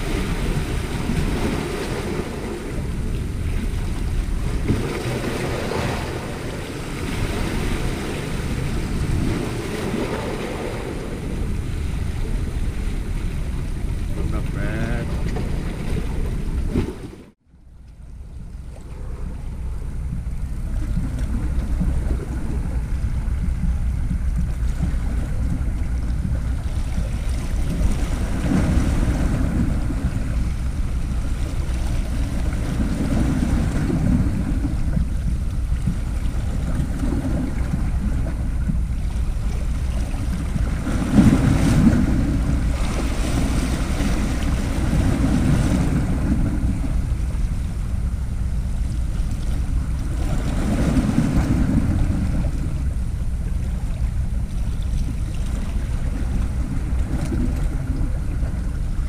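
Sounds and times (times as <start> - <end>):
waves washing against rocks: 0.0 - 17.4, 18.6 - 59.0
wind rumbling on microphone: 0.0 - 59.0.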